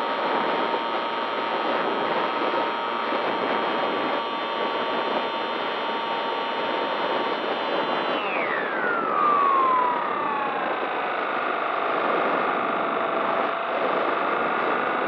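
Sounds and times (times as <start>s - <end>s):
electric propeller motor whine: 0.1s - 15.0s.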